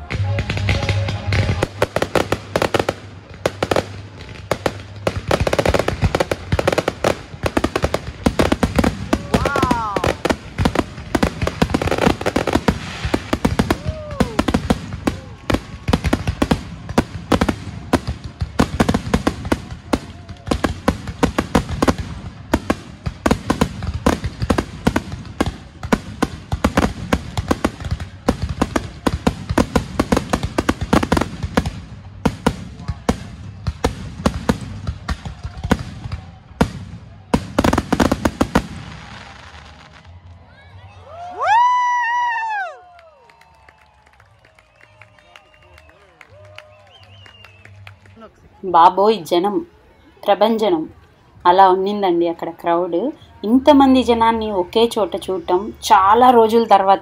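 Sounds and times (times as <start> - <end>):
fireworks bursts and crackling: 0.0 - 40.4, 41.5 - 57.0.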